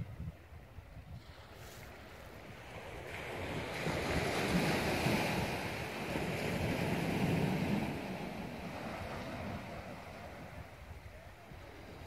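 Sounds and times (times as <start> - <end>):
wind rumble on microphone: 0.0 - 12.0
surf washing against rocks: 1.5 - 12.0.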